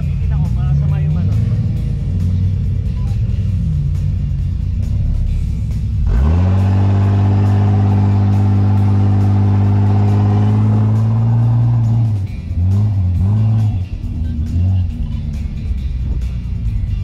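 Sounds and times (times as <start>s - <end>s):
suv engine revving: 0.0s - 17.0s.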